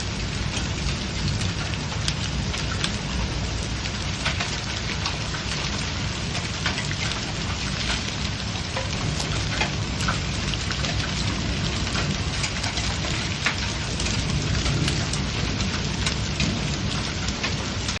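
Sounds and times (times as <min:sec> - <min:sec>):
hailstones ticking: 0:00.0 - 0:18.0
hiss of rain: 0:00.0 - 0:18.0.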